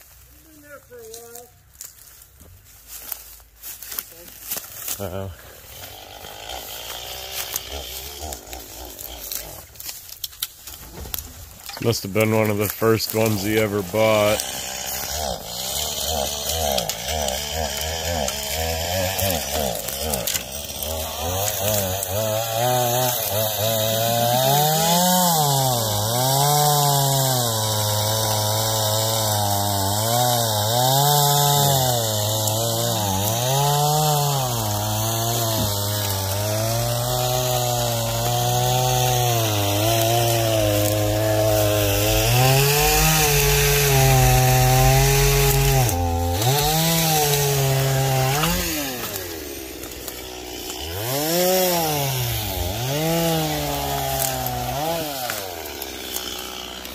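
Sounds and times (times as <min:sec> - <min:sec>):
chainsaw cutting wood: 0:03.0 - 0:56.9.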